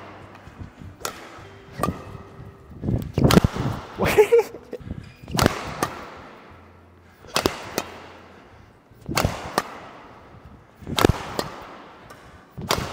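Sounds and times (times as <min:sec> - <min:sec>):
rackets hitting shuttlecock: 0:00.0 - 0:12.9.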